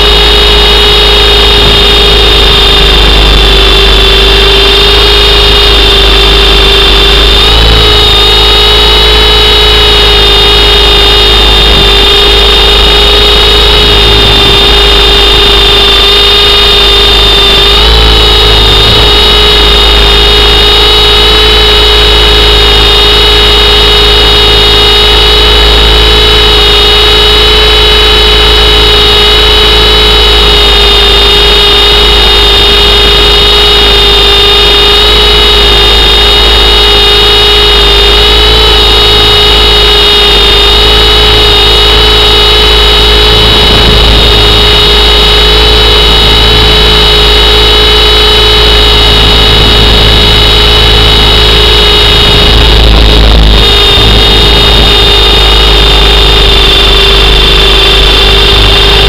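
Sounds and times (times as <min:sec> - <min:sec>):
helicopter motor whine: 0:00.0 - 0:59.0.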